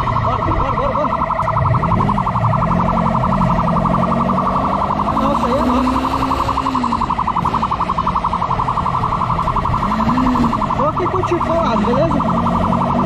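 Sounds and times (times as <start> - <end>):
police siren warbling: 0.0 - 13.0
vehicle engine running: 0.0 - 13.0.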